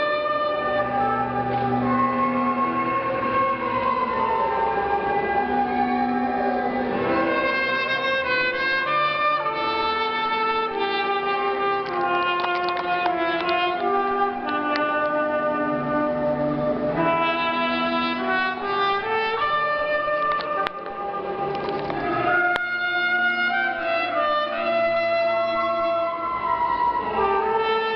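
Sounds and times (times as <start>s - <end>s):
clarinet playing held notes: 0.0s - 27.9s.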